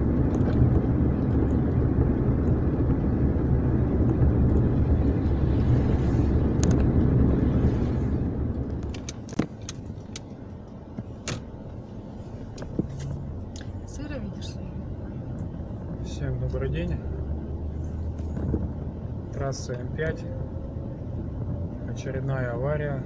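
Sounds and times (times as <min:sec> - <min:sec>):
car road and tyre rumble: 0:00.0 - 0:23.0.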